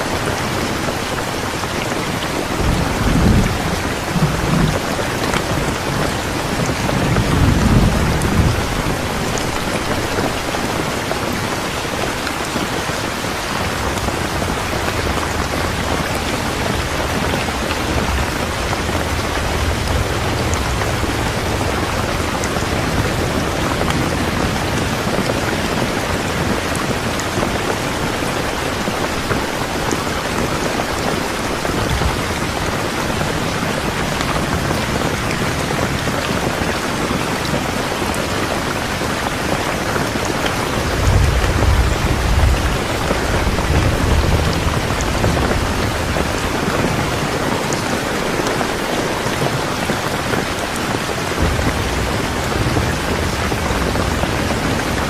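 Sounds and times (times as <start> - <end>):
steady rain falling: 0.0 - 55.0
thunder rumbling: 0.0 - 55.0.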